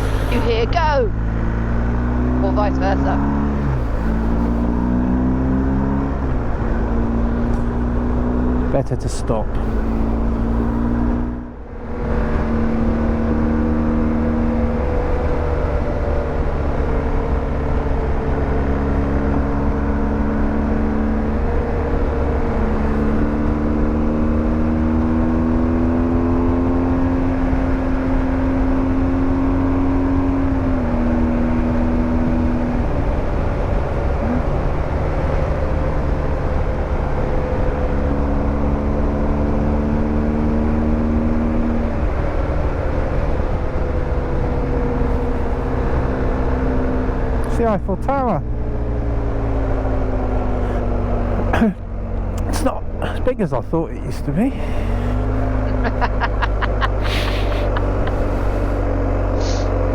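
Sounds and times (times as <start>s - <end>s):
motorcycle engine running: 0.0s - 31.9s, 41.9s - 53.3s, 54.1s - 59.9s.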